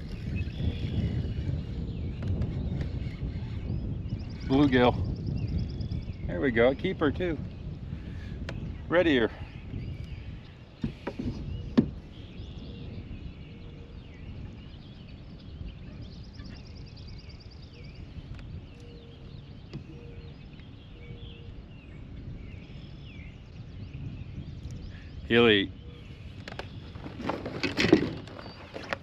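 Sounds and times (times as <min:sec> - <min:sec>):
birds calling and singing: 0:00.0 - 0:29.0.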